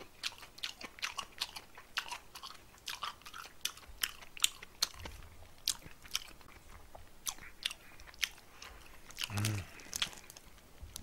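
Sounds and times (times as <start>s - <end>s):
chewing with wet mouth clicks: 0.0s - 11.0s.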